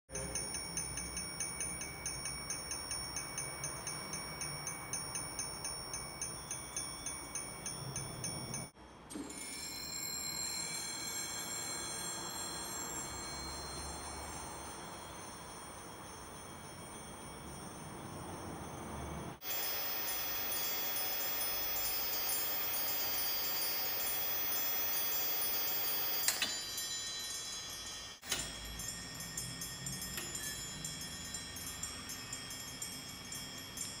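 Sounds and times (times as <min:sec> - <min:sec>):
static bells tinkling: 0:00.1 - 0:34.0.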